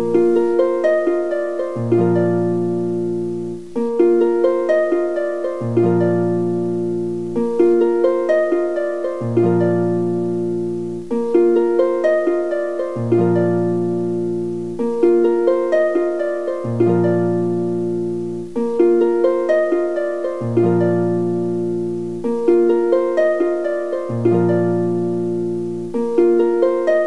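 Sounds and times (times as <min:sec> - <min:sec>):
plucked harp-like music: 0:00.0 - 0:27.0.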